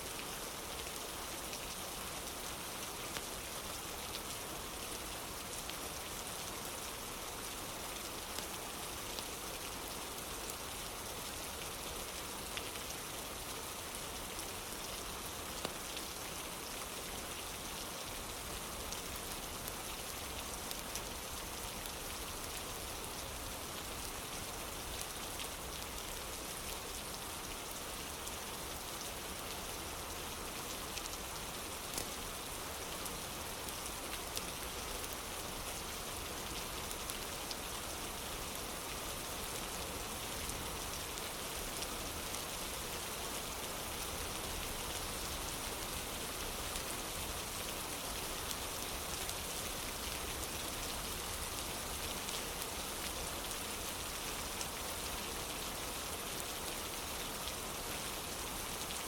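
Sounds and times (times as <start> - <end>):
rain on wooden porch: 0.1 - 59.0.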